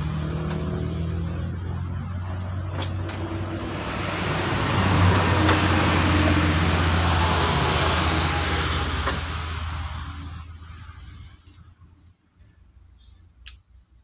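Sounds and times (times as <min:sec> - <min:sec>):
vehicle engine passing by: 0:00.0 - 0:11.7.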